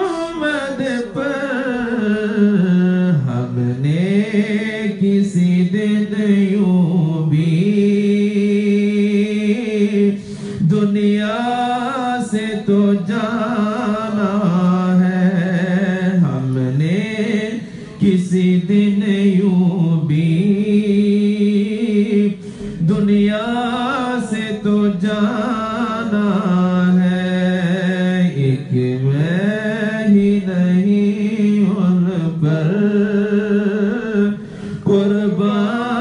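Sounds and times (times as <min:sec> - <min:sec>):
man singing unaccompanied: 0:00.0 - 0:36.0.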